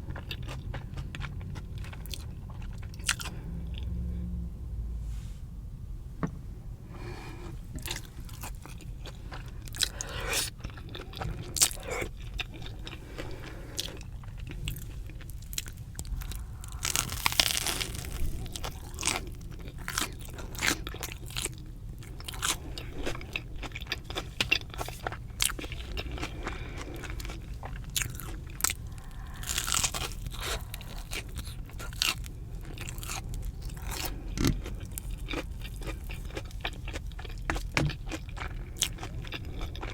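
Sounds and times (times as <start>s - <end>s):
crunching and chewing fried food: 0.0s - 4.2s, 7.0s - 39.9s
steady low hum: 0.0s - 39.9s.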